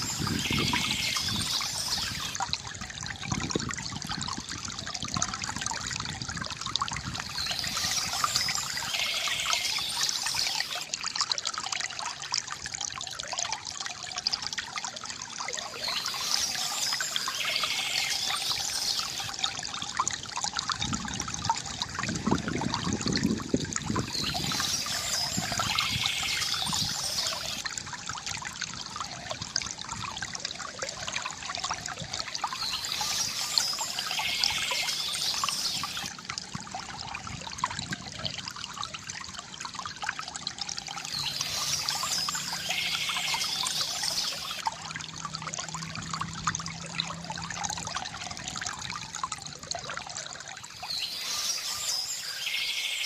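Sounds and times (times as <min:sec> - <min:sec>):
water trickling from fountain: 0:00.0 - 0:53.0.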